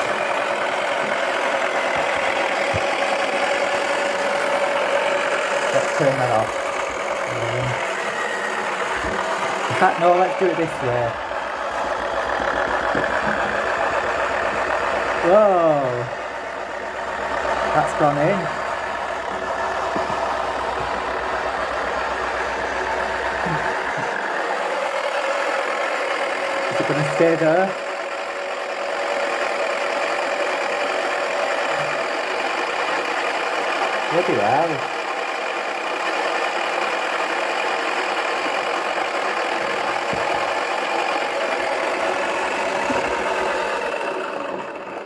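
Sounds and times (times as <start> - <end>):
toy washing machine motor whirring: 0.0 - 45.0.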